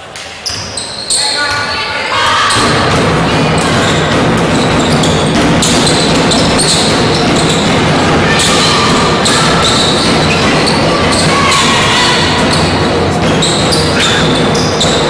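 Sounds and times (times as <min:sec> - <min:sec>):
loud hall din: 0:00.0 - 0:15.0
sneakers squeaking: 0:00.1 - 0:15.0
basketball dribbling: 0:02.5 - 0:15.0.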